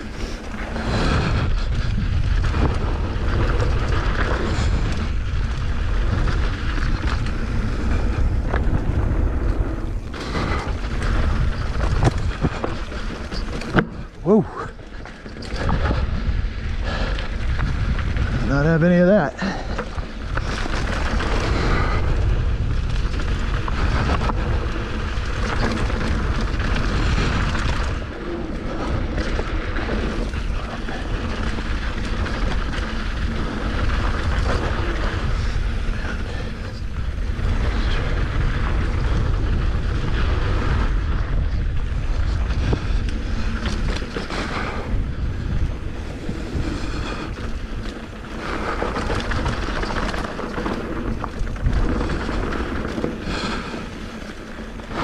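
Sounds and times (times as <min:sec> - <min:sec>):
bike rattling over bumps: 0:00.0 - 0:55.0
tyres on dirt and rock: 0:00.0 - 0:55.0
wind rumble on microphone: 0:00.0 - 0:55.0.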